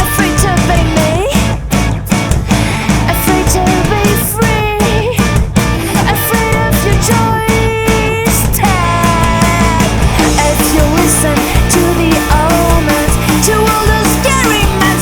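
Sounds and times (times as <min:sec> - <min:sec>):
bass guitar: 0:00.0 - 0:15.0
drums: 0:00.0 - 0:15.0
electric guitar lead with bending notes: 0:00.0 - 0:15.0.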